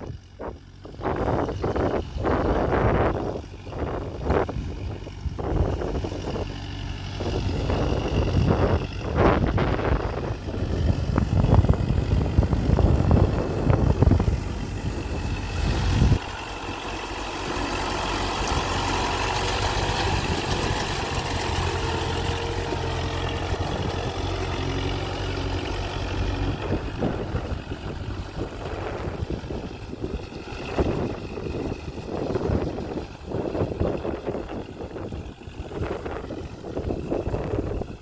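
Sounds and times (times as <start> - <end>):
loud uneven rumble: 0.0 - 38.0
tractor diesel engine running: 0.0 - 38.0.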